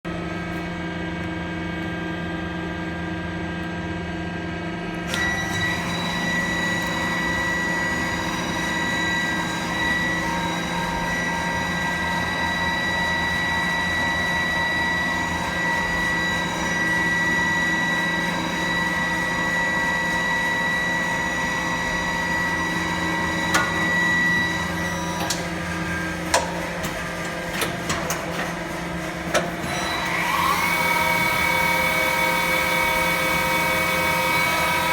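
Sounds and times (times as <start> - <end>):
lathe machine hum: 4.7 - 34.9.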